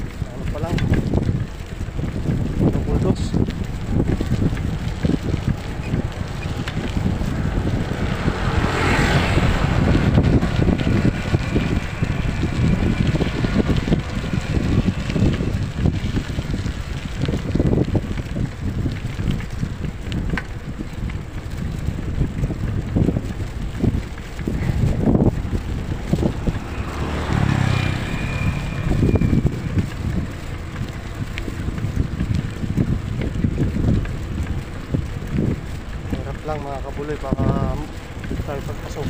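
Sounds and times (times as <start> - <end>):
road and vehicle noise: 0.0 - 39.0
wind buffeting microphone: 0.0 - 39.0.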